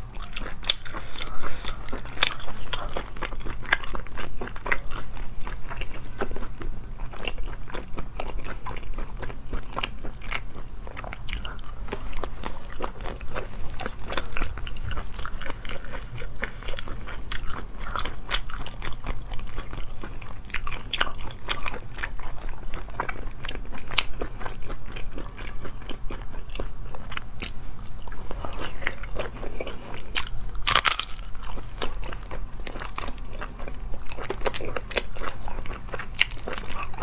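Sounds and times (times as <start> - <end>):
wet chewing and biting: 0.0 - 37.0.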